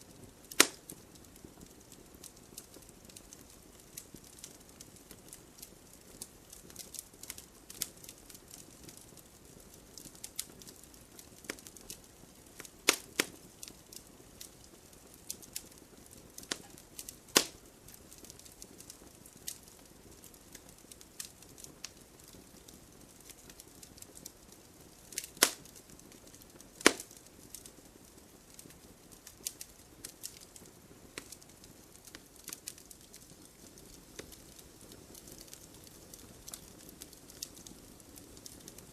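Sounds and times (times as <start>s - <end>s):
campfire crackling and popping: 0.0s - 38.9s
faint steady hiss: 0.0s - 38.9s.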